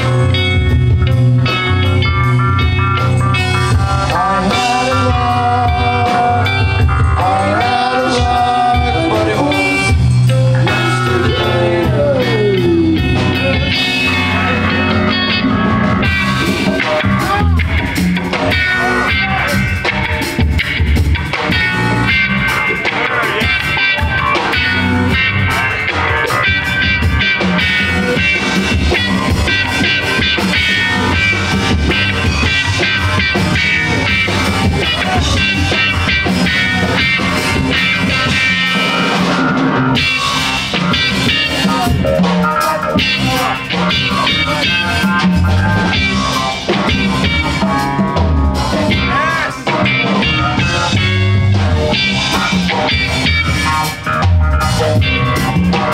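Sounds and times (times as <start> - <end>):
bass guitar: 0.0 - 55.9
drum kit: 0.0 - 55.9
electric guitar: 0.0 - 55.9.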